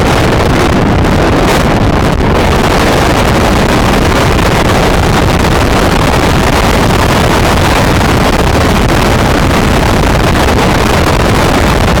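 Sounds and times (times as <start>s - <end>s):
boat motor rumbling: 0.0s - 12.0s
wind buffeting microphone: 0.0s - 12.0s.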